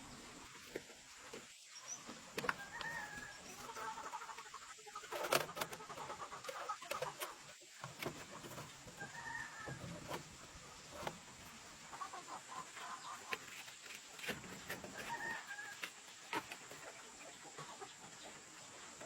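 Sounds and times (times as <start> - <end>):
chicken clucking: 1.9 - 19.0.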